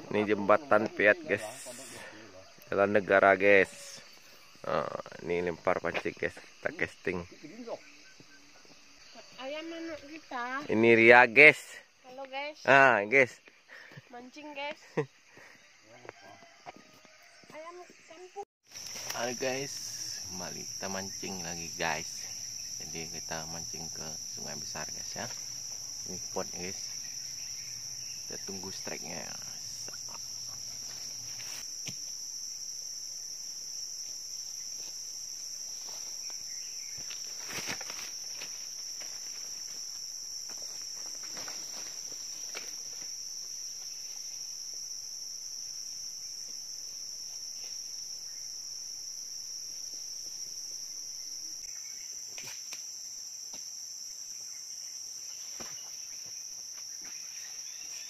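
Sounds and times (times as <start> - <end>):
insects shrilling: 0.0 - 58.0.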